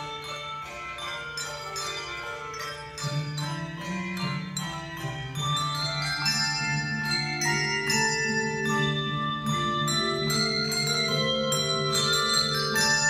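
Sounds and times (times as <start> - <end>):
handbell choir ringing: 0.0 - 13.0.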